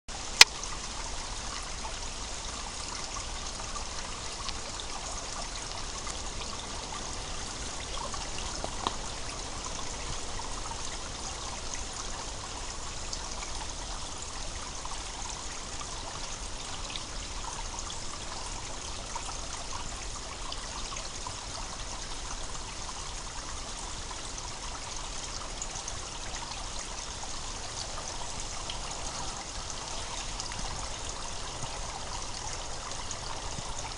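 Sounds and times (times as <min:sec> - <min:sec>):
spring water gurgling: 0:00.1 - 0:33.9.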